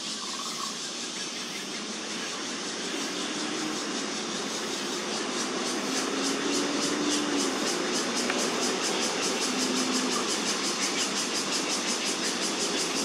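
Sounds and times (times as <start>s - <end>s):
background traffic noise: 0.0s - 13.0s
rapid pulsing high buzz: 0.0s - 13.0s.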